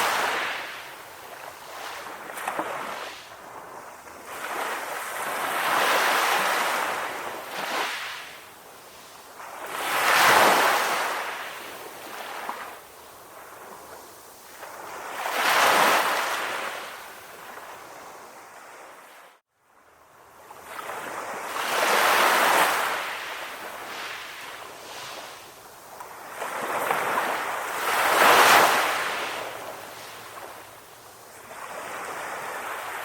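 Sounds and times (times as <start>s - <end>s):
sea waves breaking: 0.0s - 19.0s, 20.6s - 33.0s.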